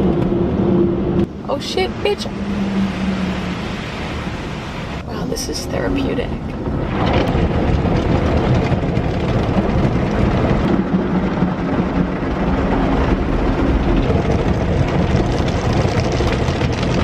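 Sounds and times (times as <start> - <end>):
water spraying over car: 1.3 - 17.0.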